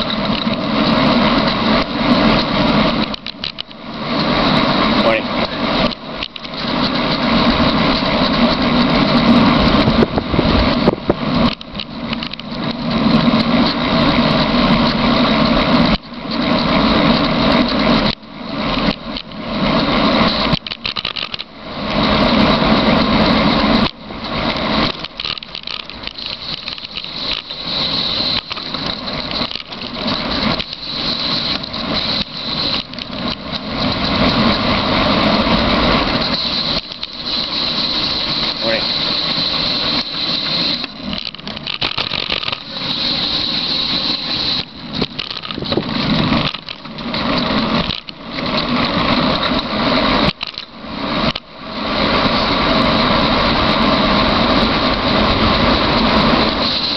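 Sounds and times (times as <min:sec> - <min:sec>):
bicycle wheels rolling: 0:00.0 - 0:56.9
wind rush: 0:00.0 - 0:56.9.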